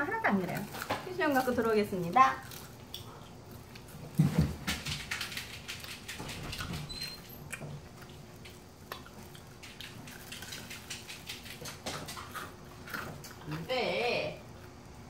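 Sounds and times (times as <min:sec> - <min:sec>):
chewing crispy fried chicken: 0:00.0 - 0:15.0.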